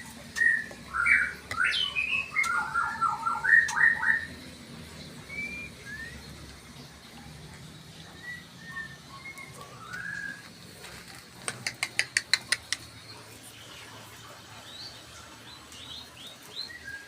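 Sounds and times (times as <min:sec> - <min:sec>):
bird chirping: 0:00.2 - 0:10.6, 0:11.5 - 0:17.0.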